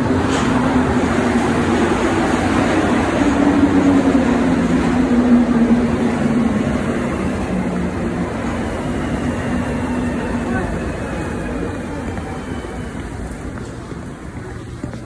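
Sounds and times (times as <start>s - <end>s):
metro train rumbling: 0.0s - 15.0s.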